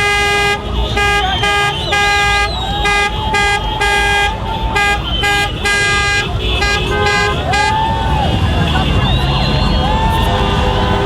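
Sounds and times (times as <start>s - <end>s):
car horns honking: 0.0s - 11.0s
people shouting and whooping: 1.1s - 5.7s, 6.3s - 11.0s.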